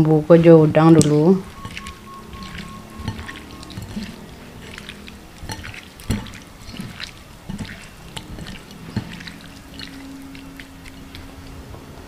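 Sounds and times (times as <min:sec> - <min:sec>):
wet squishing of shrimp: 0:01.0 - 0:11.6.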